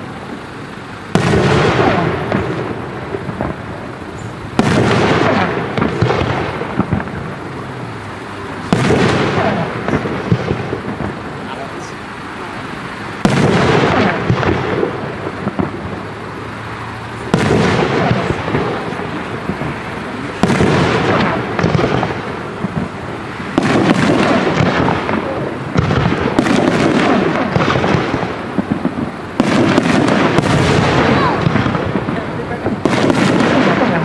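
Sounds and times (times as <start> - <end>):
firework crackling: 0.0 - 34.0
firework shells bursting: 1.1 - 12.3, 13.0 - 34.0.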